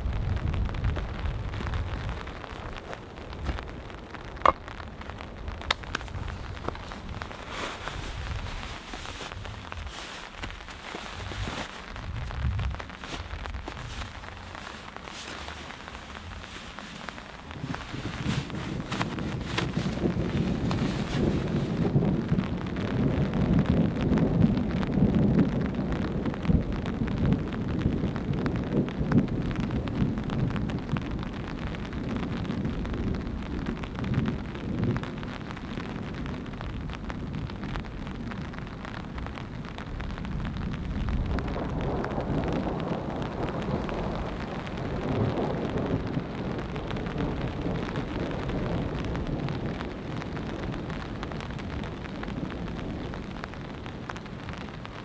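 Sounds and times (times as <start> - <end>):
gusting wind: 0.0 - 55.0
rain falling: 0.0 - 55.0
thunder rolling: 0.0 - 55.0.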